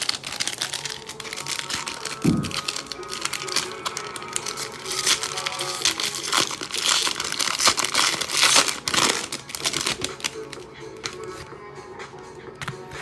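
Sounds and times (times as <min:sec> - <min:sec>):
card wrappers crinkling: 0:00.0 - 0:11.4
quiet background music: 0:00.0 - 0:13.0.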